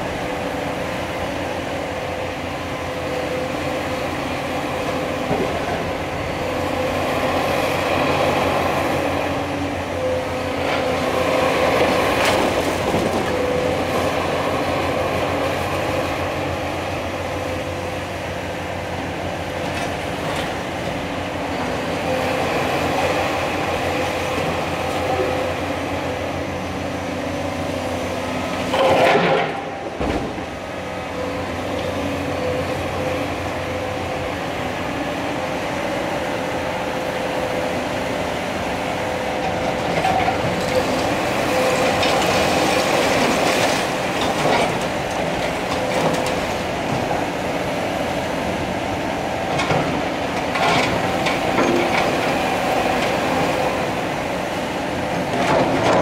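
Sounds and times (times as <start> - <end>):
excavator engine and hydraulics: 0.0 - 56.0.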